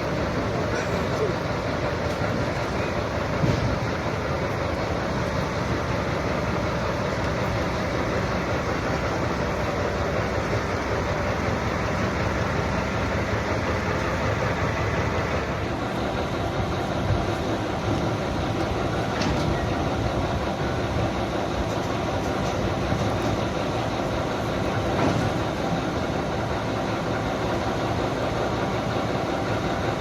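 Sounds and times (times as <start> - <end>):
diesel locomotive running: 0.0 - 30.0.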